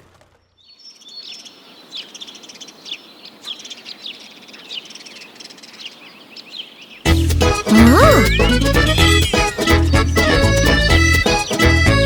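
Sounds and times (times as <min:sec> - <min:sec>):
birds chirping: 0:00.6 - 0:12.0.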